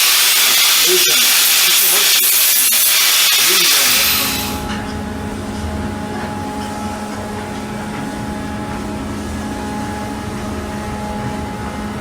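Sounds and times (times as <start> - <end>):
sawmill machinery hum: 0.0 - 12.0.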